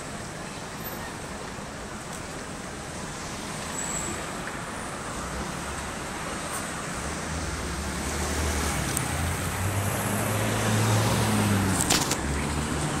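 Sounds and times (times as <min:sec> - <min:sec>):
cars passing: 0:01.4 - 0:13.0.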